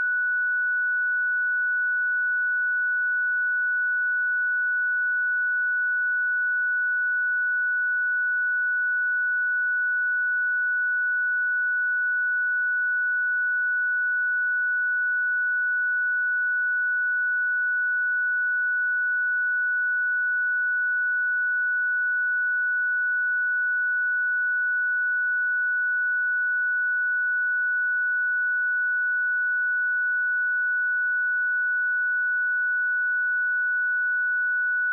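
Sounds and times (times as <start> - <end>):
high sine-wave test tone: 0.0 - 34.9.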